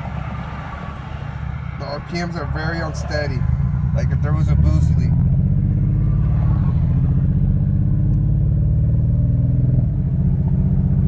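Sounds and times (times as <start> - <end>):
turbocharged car engine revving: 1.8 - 11.0.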